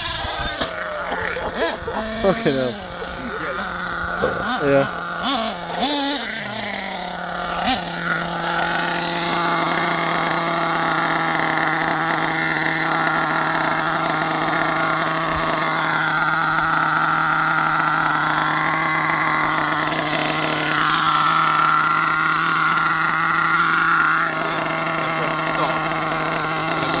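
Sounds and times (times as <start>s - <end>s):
model engine idling: 0.0s - 27.0s.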